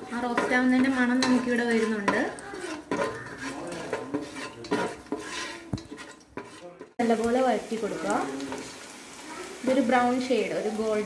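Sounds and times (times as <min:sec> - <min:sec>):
spatula scraping a pan: 0:00.0 - 0:08.9
spices frying in hot oil: 0:00.0 - 0:11.0.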